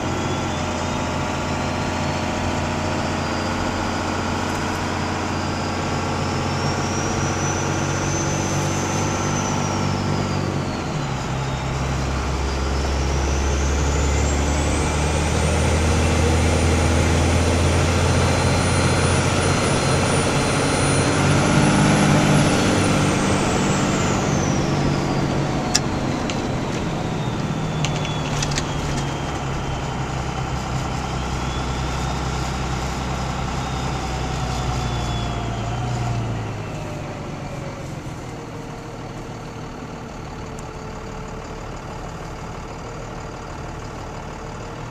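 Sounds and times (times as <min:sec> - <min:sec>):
turbocharger whistle: 0:00.0 - 0:41.4
diesel engine revving: 0:00.0 - 0:44.9.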